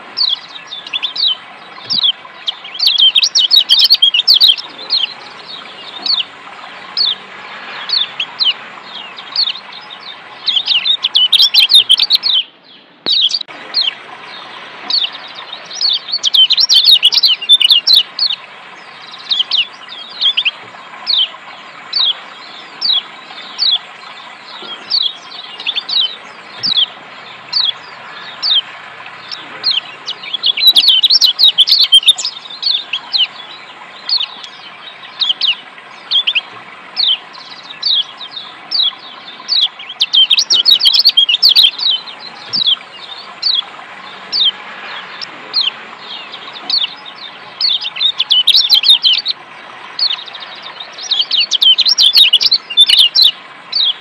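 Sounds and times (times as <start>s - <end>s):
bird calls and chattering: 0.0s - 54.0s
rushing water: 0.0s - 54.0s.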